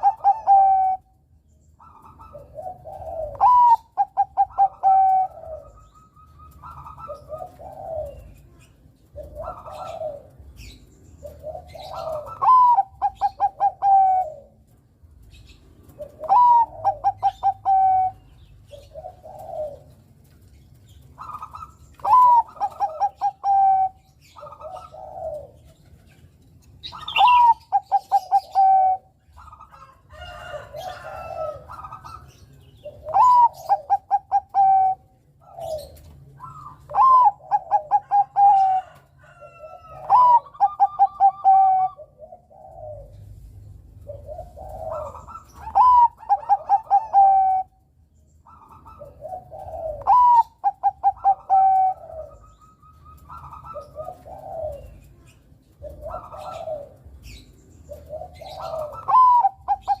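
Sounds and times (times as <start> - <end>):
dove cooing: 0.0 - 60.0.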